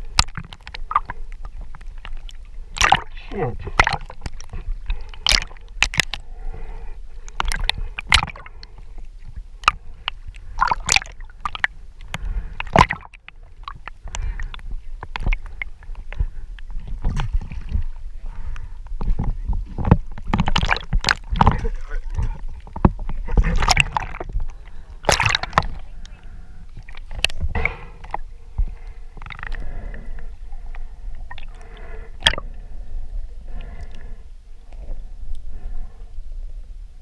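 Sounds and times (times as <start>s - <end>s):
water splashing and gurgling: 0.0s - 36.0s
low rumble of water: 0.0s - 37.0s.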